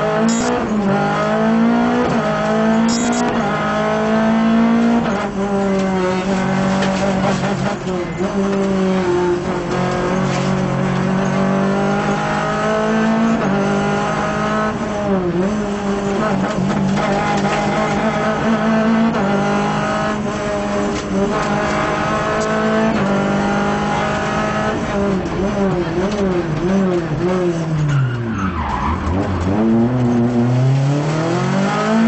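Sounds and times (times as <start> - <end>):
rally car engine accelerating: 0.0 - 32.0.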